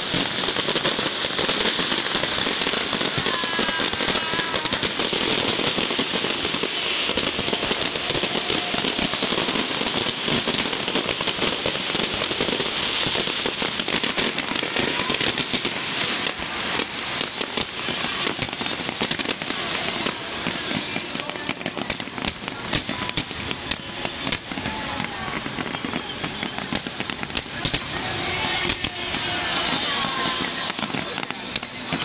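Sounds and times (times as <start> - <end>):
fireworks crackling: 0.0 - 32.0.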